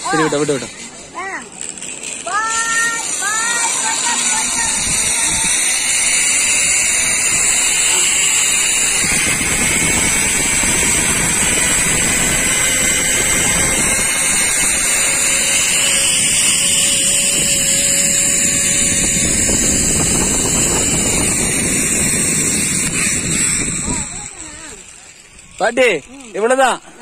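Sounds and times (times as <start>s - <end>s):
zip-line trolley whirring on cable: 0.0s - 27.0s.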